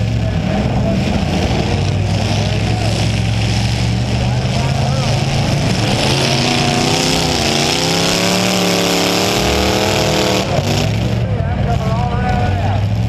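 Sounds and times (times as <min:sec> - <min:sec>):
car engines running loud: 0:00.0 - 0:13.0
engine revving: 0:00.0 - 0:13.0.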